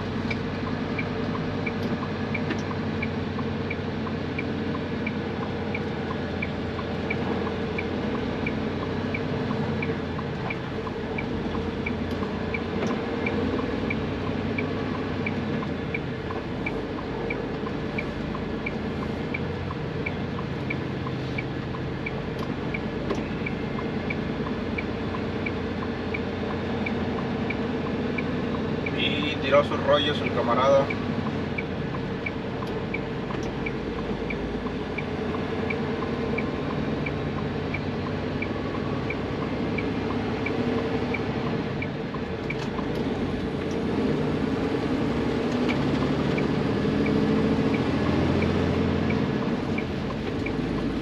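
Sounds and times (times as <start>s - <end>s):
truck engine and road drone: 0.0s - 51.0s
indicator ticking: 0.2s - 43.8s, 45.4s - 51.0s.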